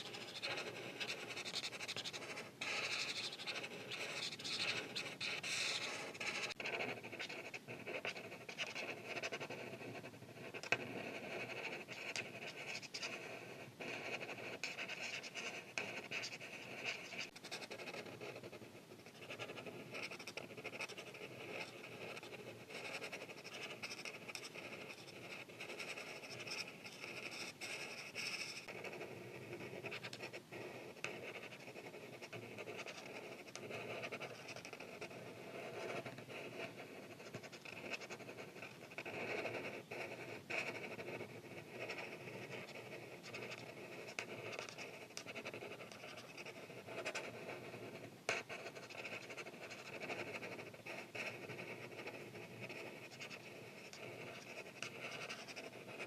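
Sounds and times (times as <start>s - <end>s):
markers scratching on paper: 0.0s - 56.0s.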